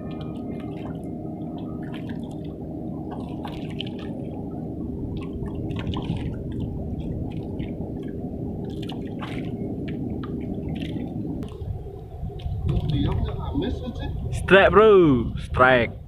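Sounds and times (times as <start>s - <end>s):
seawater washing at shore: 0.0s - 16.0s.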